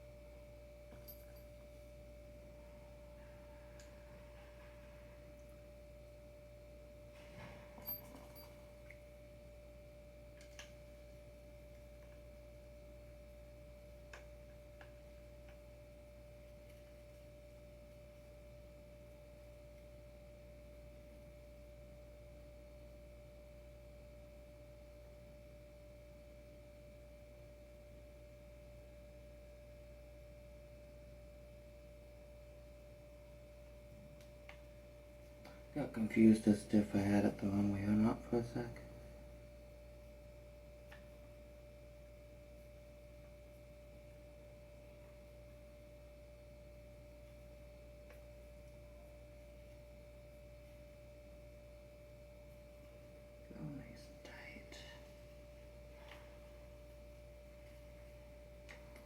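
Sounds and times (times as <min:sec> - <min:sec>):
faint steady whine: 0:00.0 - 0:59.0.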